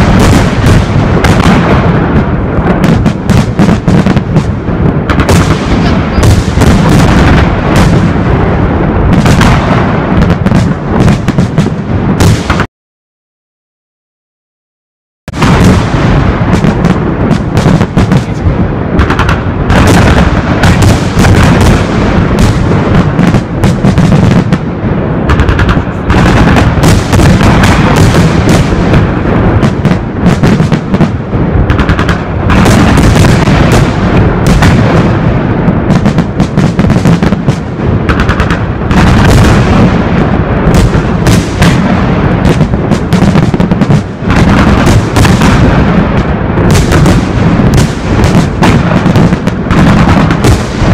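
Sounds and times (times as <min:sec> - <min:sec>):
fireworks bangs and cracks: 0:00.0 - 0:12.7, 0:15.3 - 0:50.9.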